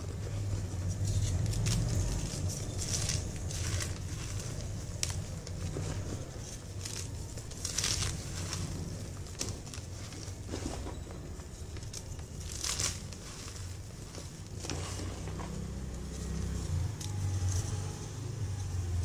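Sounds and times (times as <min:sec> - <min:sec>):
chalk crumbling and crunching: 0:00.0 - 0:19.0.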